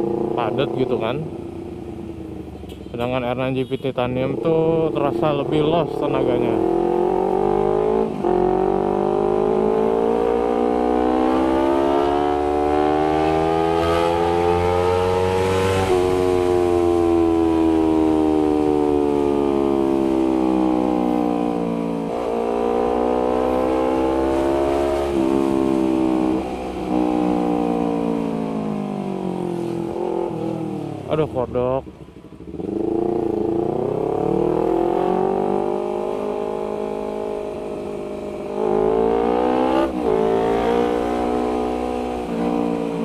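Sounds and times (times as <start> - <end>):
motorcycle engine accelerating: 0.0 - 2.7, 4.2 - 43.0.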